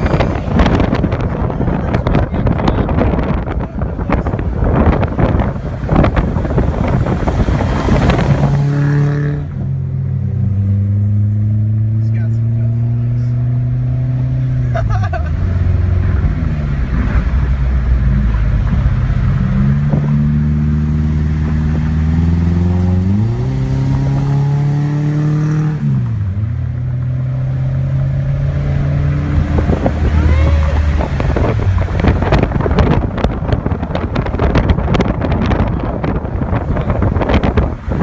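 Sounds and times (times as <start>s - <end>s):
wind buffeting microphone: 0.0s - 9.8s, 15.6s - 38.0s
car engine revving: 0.0s - 38.0s.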